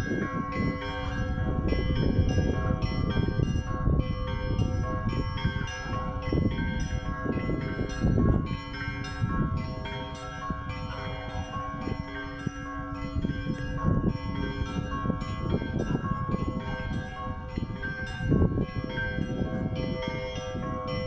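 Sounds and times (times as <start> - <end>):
church bells ringing a peal: 0.0 - 21.0.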